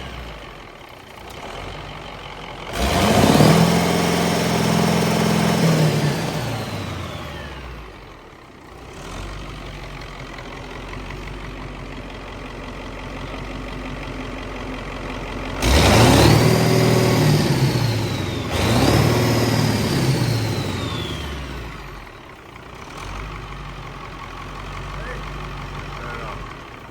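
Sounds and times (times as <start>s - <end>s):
diesel engine idling and revving: 0.0s - 26.9s.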